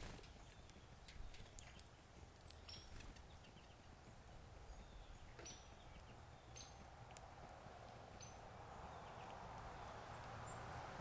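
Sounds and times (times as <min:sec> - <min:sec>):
birds pecking on wooden feeder: 0:00.0 - 0:04.4, 0:05.0 - 0:11.0
high bird calls: 0:00.3 - 0:07.0, 0:08.1 - 0:10.7.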